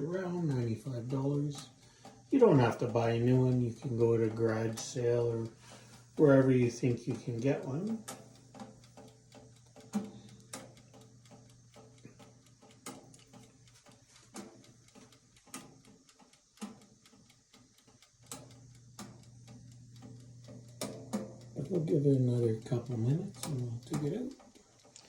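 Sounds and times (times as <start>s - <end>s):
light ticks: 0.0s - 25.0s
toaster oven fan hum: 0.0s - 25.0s.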